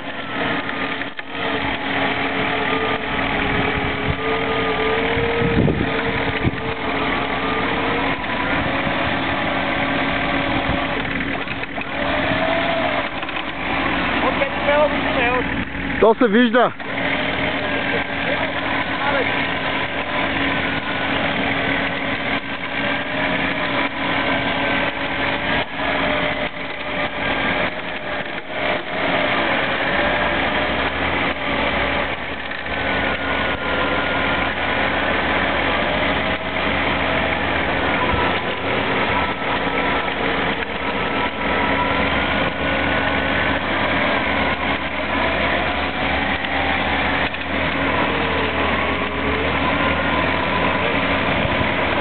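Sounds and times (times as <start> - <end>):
off-road vehicle engine under load: 0.0 - 52.0.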